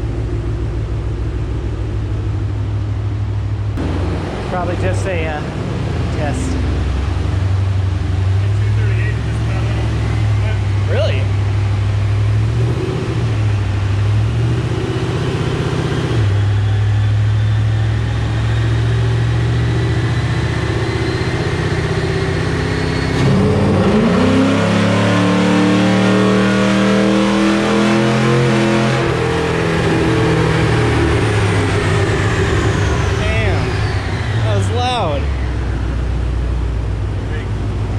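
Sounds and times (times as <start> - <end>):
car engine revving on dyno: 3.7 - 37.9.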